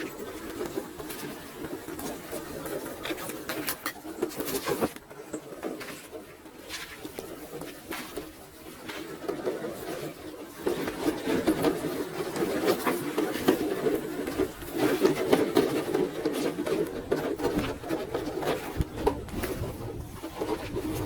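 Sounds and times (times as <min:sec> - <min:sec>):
tyres clicking and scraping on rock: 0:00.0 - 0:21.0.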